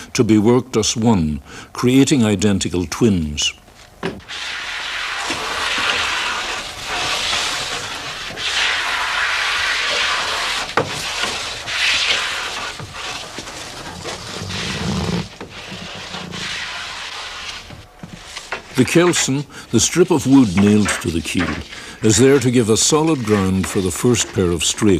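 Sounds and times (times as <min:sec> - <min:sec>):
hand tool rasping wood: 0:04.2 - 0:24.9.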